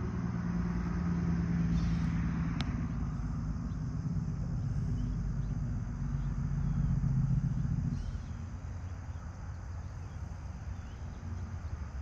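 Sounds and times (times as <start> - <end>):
distant vehicle rumble: 0.0 - 12.0
steady background hum: 0.0 - 12.0.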